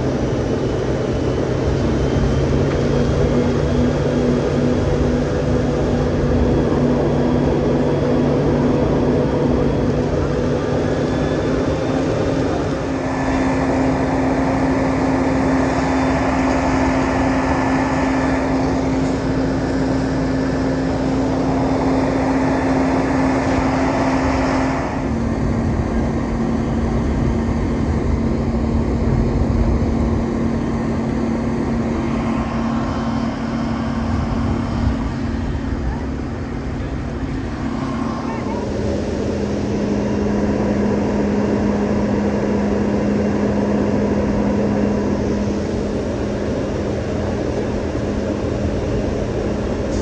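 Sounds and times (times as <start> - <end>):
dense rushing noise: 0.0 - 50.0
fire engine pumps droning: 0.0 - 50.0.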